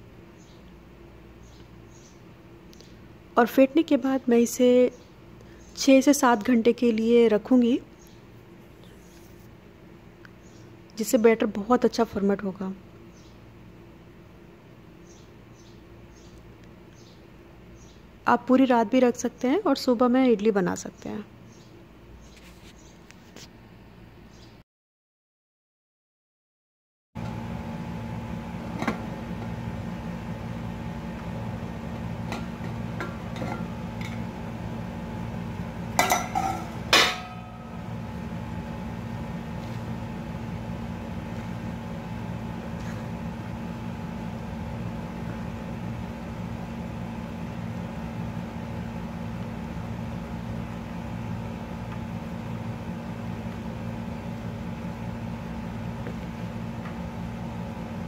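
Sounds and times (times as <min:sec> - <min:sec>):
low electrical hum: 0:00.0 - 0:24.6, 0:27.2 - 0:58.0.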